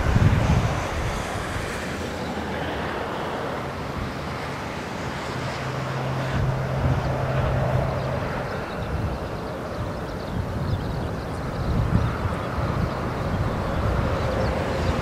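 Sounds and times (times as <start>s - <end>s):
distant jet rumble: 0.0s - 15.0s.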